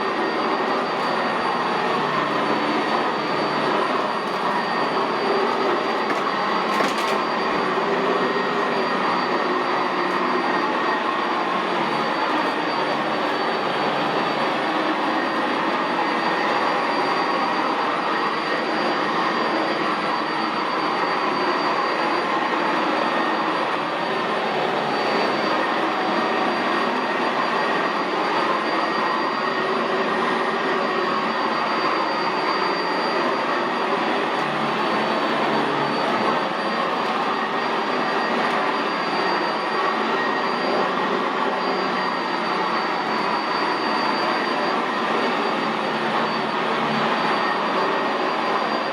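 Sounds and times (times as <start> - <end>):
upright vacuum running over carpet: 0.0 - 48.9.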